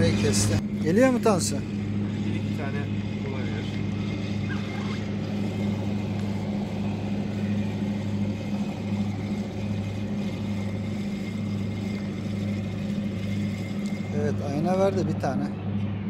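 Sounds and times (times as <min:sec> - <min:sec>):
boat engine idling: 0:00.0 - 0:15.4.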